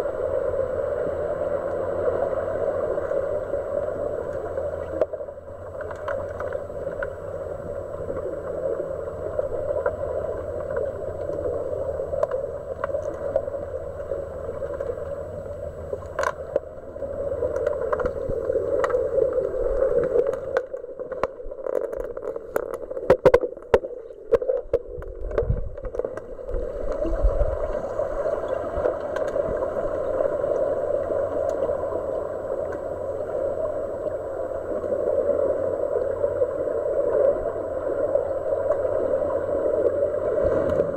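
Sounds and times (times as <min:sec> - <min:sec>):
muffled underwater rushing: 0:00.0 - 0:40.9.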